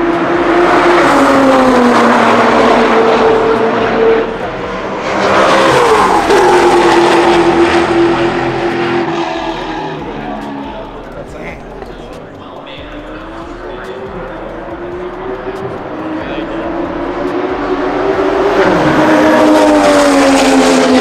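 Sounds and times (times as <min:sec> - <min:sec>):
race cars passing at speed: 0:00.0 - 0:21.0.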